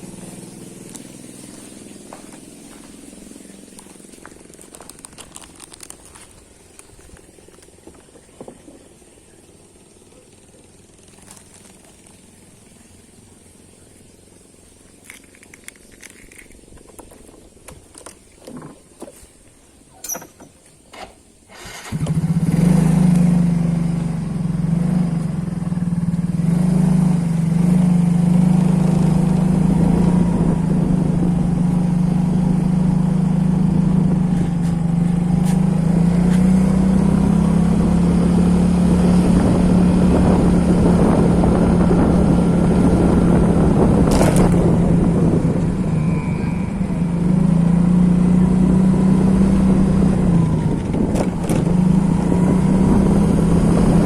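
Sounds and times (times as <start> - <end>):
motorcycle engine running: 0.0 - 16.4, 21.8 - 54.0.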